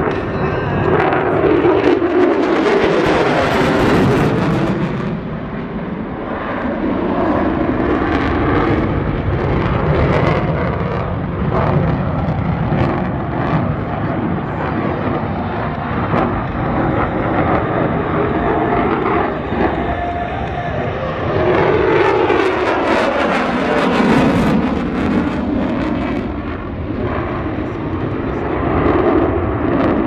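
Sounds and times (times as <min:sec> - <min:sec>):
jet fighter rumble: 0:00.0 - 0:30.0.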